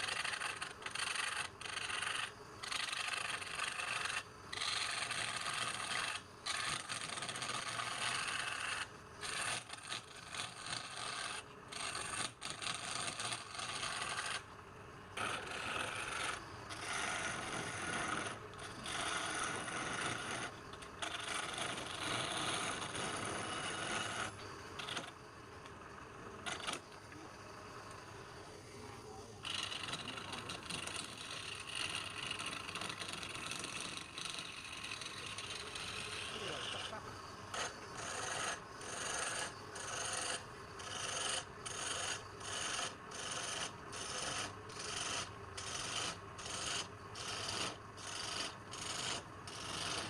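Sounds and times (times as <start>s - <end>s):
turning tool scraping wood on lathe: 0.0s - 14.5s, 15.2s - 27.0s, 29.4s - 50.0s.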